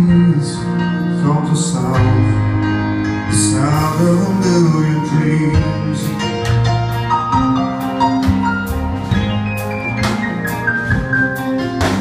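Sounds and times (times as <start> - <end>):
drums: 0.0 - 12.0
piano chords: 0.0 - 12.0.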